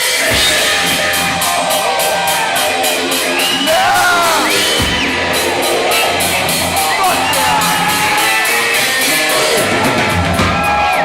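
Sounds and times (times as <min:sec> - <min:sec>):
drums with cymbal beat: 0:00.0 - 0:11.0
electric lead guitar: 0:00.0 - 0:11.0
hard rock band playing: 0:00.0 - 0:11.0.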